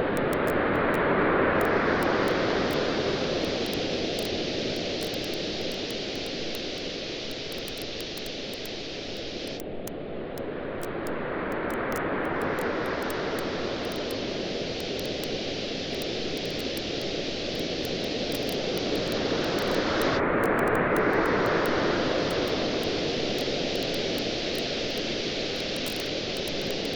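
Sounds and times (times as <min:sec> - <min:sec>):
surf washing on a beach: 0:00.1 - 0:09.6, 0:10.5 - 0:26.9
bonfire crackling: 0:01.7 - 0:09.8, 0:11.7 - 0:26.9.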